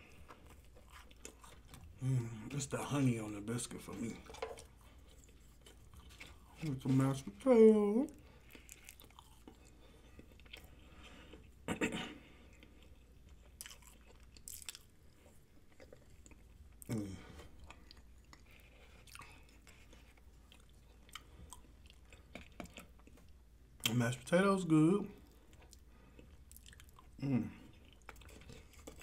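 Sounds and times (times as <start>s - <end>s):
chewing and lip-smacking: 0.0s - 2.0s, 4.2s - 6.7s, 8.1s - 11.7s, 12.4s - 24.0s, 25.2s - 29.0s.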